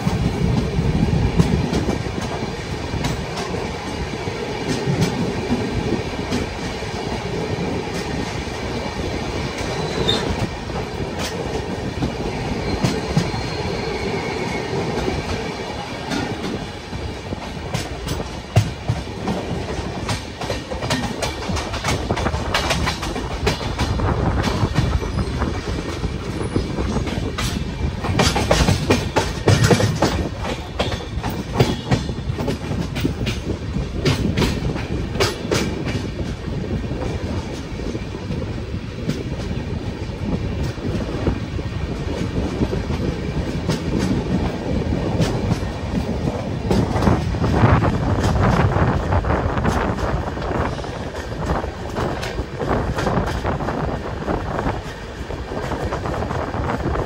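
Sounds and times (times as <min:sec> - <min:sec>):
train rumble: 0:00.0 - 0:57.0
train wheels clattering over joints: 0:00.0 - 0:57.0.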